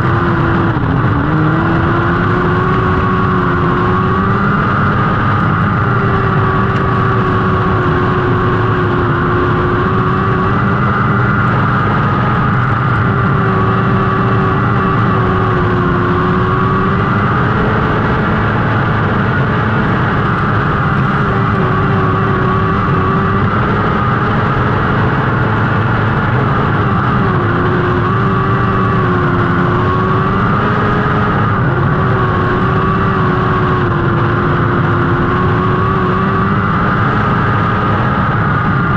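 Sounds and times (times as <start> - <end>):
racing car engines droning: 0.0 - 38.9.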